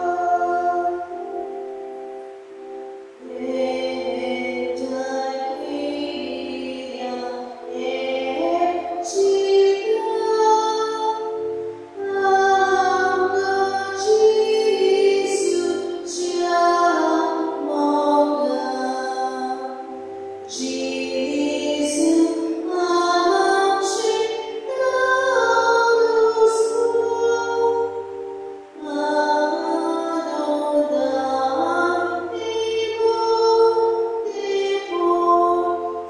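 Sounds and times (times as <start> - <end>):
held accompaniment notes: 0.0 - 36.0
woman singing a hymn: 0.0 - 36.0.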